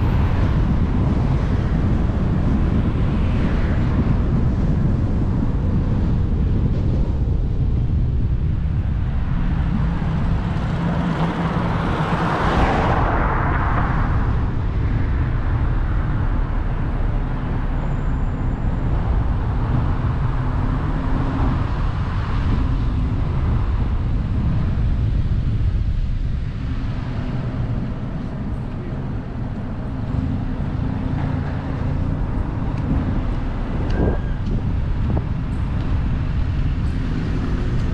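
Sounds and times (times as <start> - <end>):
road noise: 0.0 - 37.9
wind buffeting microphone: 0.0 - 37.9.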